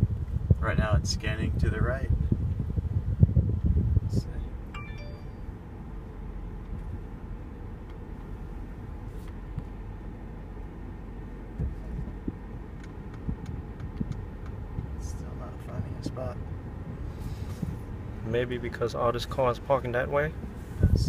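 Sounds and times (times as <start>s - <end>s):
car cabin hum: 1.6s - 21.0s.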